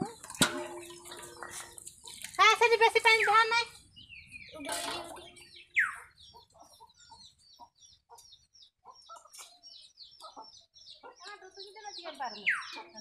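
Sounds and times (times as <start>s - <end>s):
chickens clucking: 0.0s - 3.7s, 4.3s - 13.0s.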